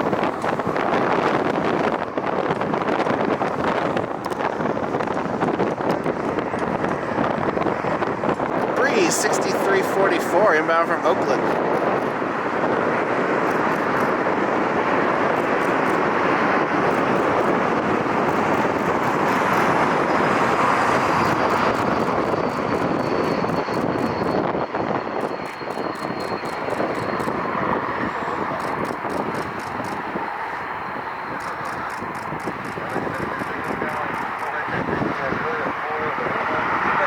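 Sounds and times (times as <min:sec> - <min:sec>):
jet airliner passing: 0:00.0 - 0:37.0.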